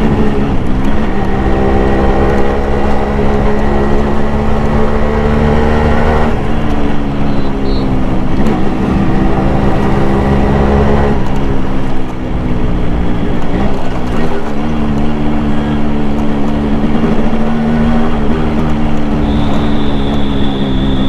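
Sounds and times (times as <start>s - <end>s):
two-stroke motorcycle engine running: 0.0s - 21.0s.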